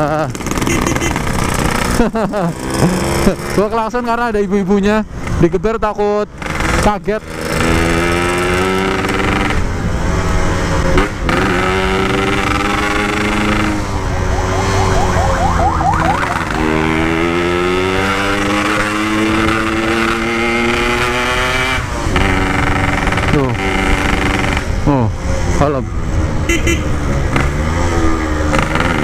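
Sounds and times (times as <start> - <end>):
motorcycle engine revving: 0.0 - 4.2, 6.3 - 29.0.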